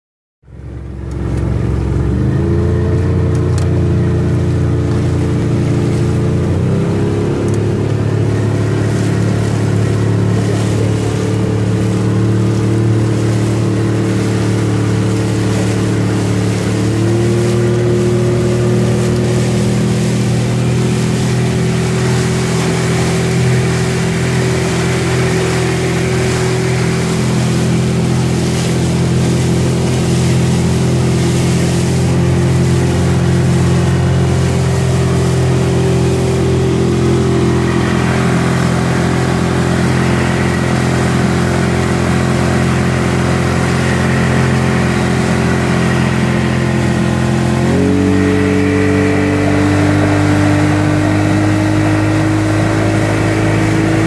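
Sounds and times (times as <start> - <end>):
motorboat engine running: 0.4 - 54.0.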